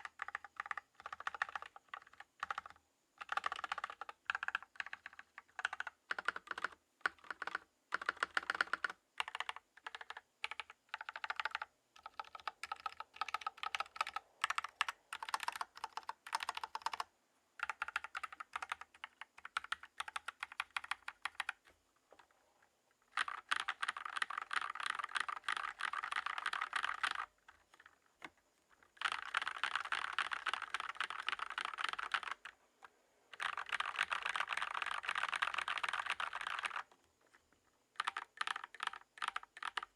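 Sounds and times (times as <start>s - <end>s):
mechanical keyboard typing: 0.0s - 21.7s, 23.1s - 32.6s, 33.3s - 36.9s, 37.9s - 39.9s.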